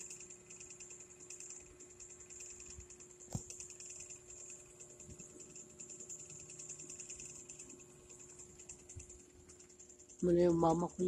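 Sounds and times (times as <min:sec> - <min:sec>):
fast-pulsing high chirring: 0:00.0 - 0:11.0
low steady hum: 0:00.0 - 0:11.0.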